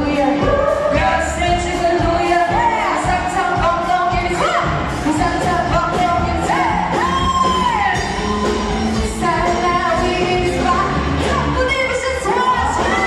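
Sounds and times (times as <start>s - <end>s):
pop song with singer: 0.0s - 13.0s.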